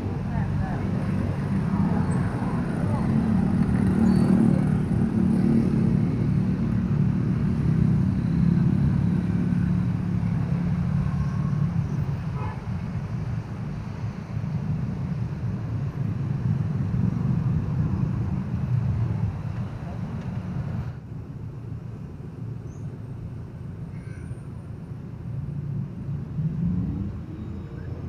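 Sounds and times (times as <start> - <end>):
motor vehicle engines running: 0.0 - 28.0.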